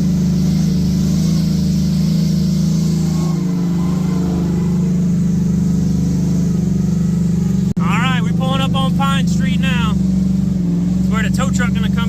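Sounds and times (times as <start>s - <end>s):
truck engine running under load: 0.0s - 12.0s.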